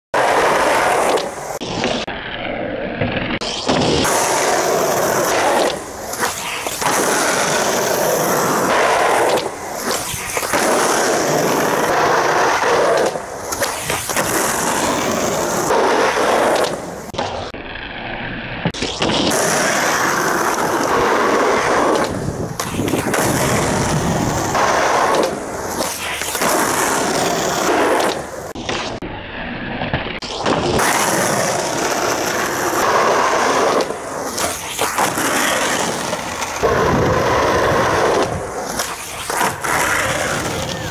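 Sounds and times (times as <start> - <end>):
skateboard wheels rolling on asphalt: 0.1 - 40.9
skateboard clacks: 0.2 - 29.1, 29.7 - 40.9.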